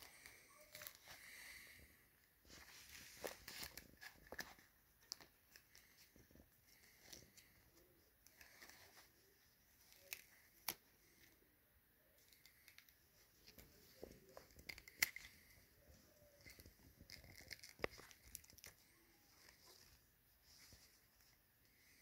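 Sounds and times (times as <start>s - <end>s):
rubber bands rubbing and rustling: 0.0s - 11.4s, 12.1s - 22.0s.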